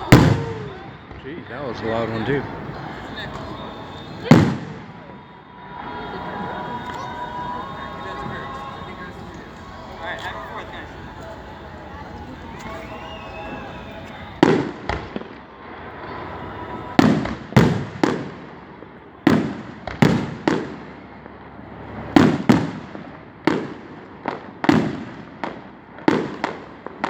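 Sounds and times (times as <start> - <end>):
fireworks bursting with booms: 0.0 - 27.0.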